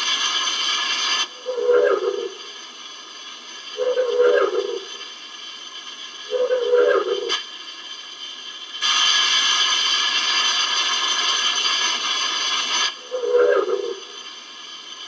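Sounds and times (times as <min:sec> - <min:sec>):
electronic hiss with steady tones: 0:00.0 - 0:15.0.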